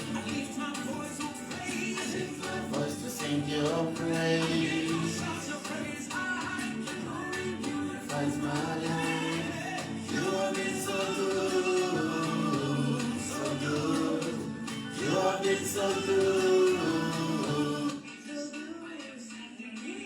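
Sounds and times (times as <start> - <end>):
gospel singing: 0.0 - 20.0.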